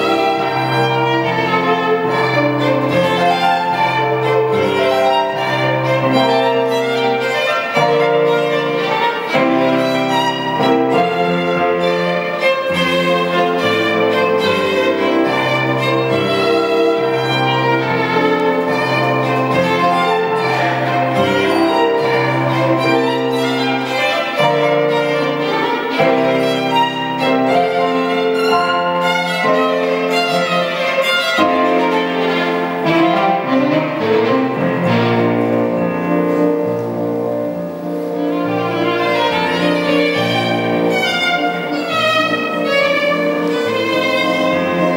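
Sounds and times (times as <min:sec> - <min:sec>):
violin melody: 0:00.0 - 0:44.9.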